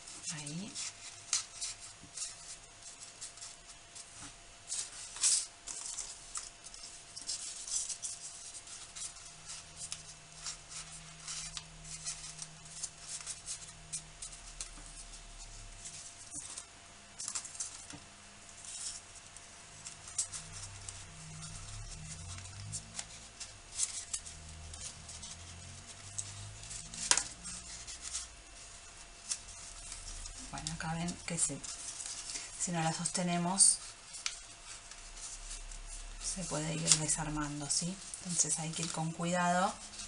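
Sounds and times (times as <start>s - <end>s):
paper rustling and crinkling: 0.0s - 40.0s.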